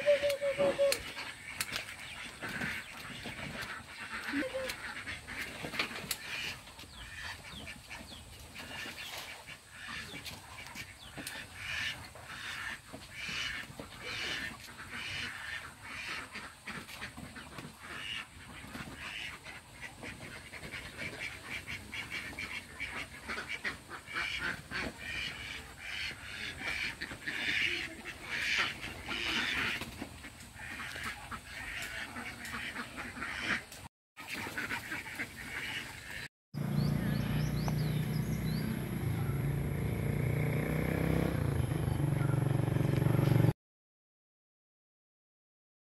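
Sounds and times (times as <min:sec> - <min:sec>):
ducks quacking: 0:00.0 - 0:39.6.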